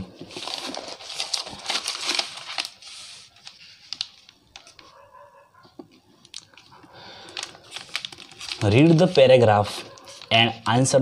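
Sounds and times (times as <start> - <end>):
paper sheets rustling: 0.0 - 5.0, 6.4 - 11.0.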